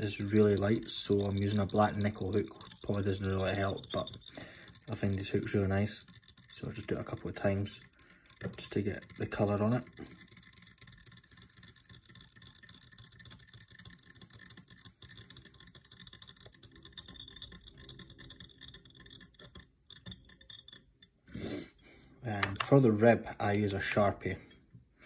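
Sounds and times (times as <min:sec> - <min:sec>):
thread clicking and rustling: 0:00.0 - 0:21.3.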